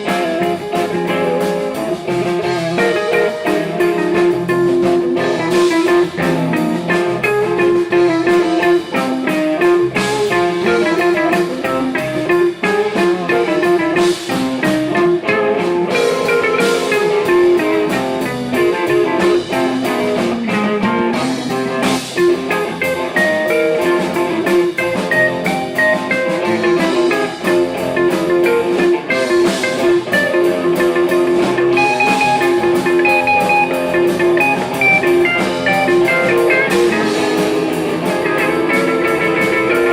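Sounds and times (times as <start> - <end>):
blues guitar: 0.0 - 39.9
drum kit: 0.0 - 39.9.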